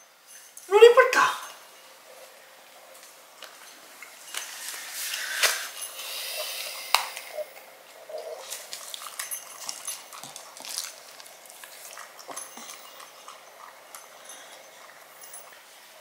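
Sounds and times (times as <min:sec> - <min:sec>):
dog chewing food from ceramic bowl: 0:02.6 - 0:16.0.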